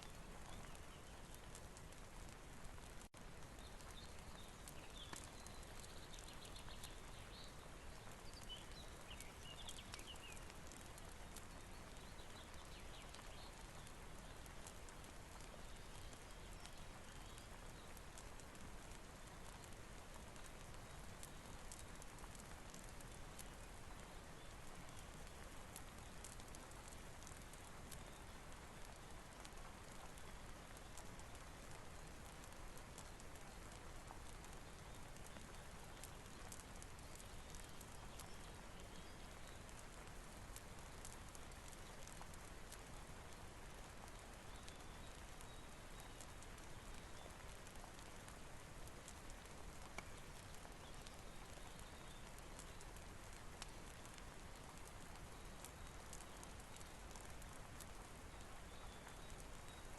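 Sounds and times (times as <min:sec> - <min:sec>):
fireplace crackling: 0:00.0 - 0:59.9
soft steady rain: 0:00.0 - 0:59.9.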